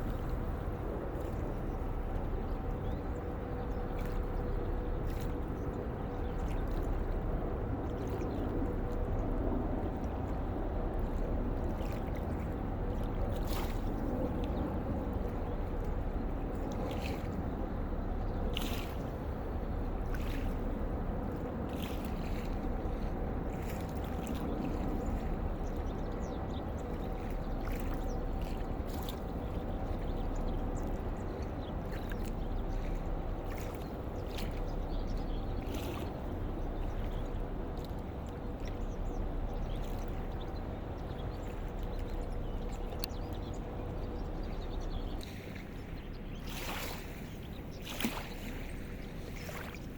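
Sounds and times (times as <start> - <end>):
boat engine rumbling: 0.0 - 49.9.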